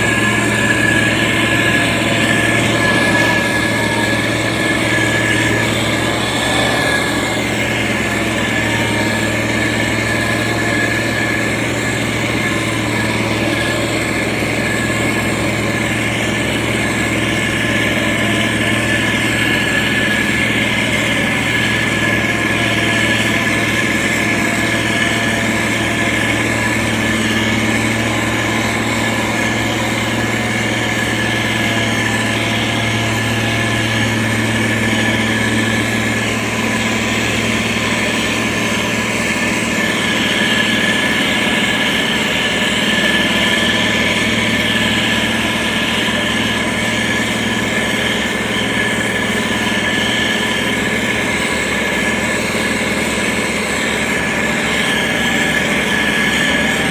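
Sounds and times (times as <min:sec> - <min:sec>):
diesel engine drone: 0:00.0 - 0:56.9
steady whine: 0:00.0 - 0:56.9.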